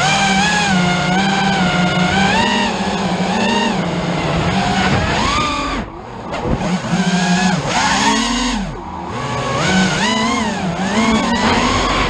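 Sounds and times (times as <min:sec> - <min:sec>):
motor revving: 0:00.0 - 0:05.9, 0:06.5 - 0:12.0.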